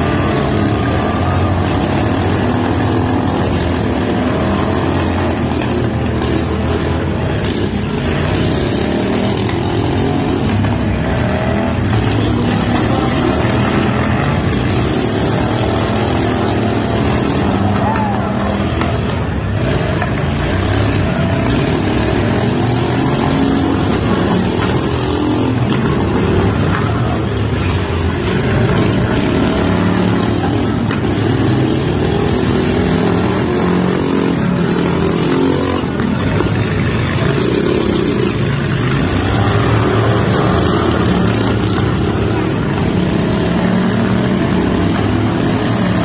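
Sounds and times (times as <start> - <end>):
lawn tractor engines revving: 0.0 - 46.0.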